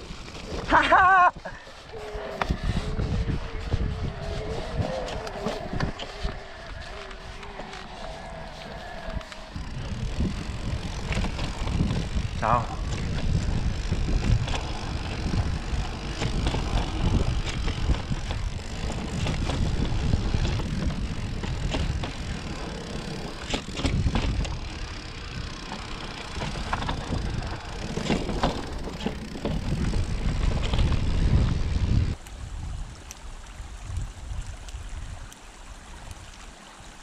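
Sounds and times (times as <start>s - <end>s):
tyres crunching on trail: 0.0s - 32.2s
bike clicks and rattles: 0.0s - 32.3s
wind rumble on microphone: 0.0s - 37.0s.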